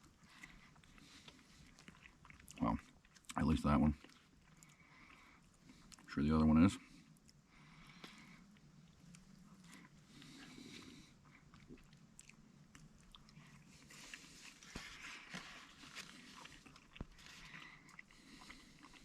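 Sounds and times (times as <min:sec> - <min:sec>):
person chewing food: 0:00.0 - 0:06.1, 0:06.8 - 0:19.0.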